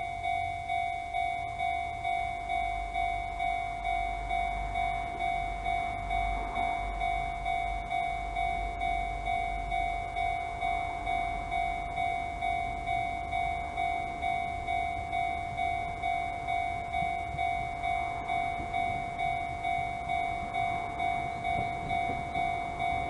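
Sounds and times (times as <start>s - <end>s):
level-crossing electronic bell: 0.0s - 23.0s.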